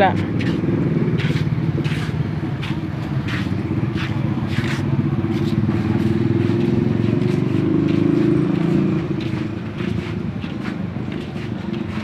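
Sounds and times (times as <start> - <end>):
footsteps scuffing on concrete: 0.0 - 12.0
vehicle engine running: 0.0 - 12.0.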